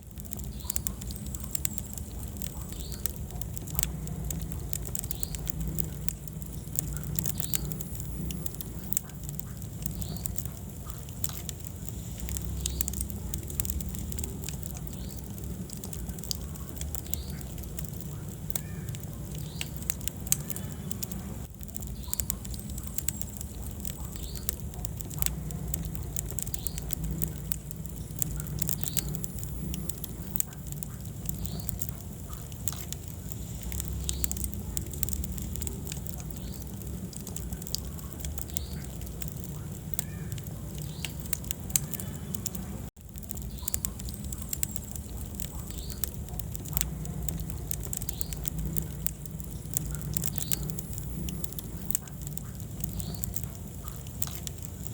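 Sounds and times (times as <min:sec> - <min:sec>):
low rumble of flames: 0:00.0 - 0:54.9
wood fire pops and snaps: 0:00.0 - 0:54.9.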